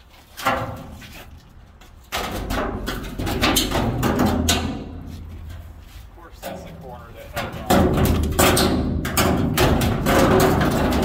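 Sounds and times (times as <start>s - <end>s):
steel panel scraping and rumbling: 0.3s - 11.0s.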